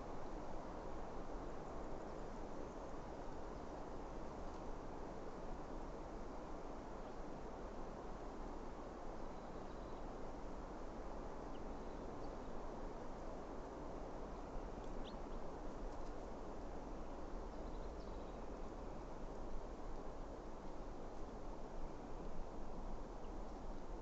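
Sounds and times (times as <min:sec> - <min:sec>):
forest background noise: 0:00.0 - 0:24.0.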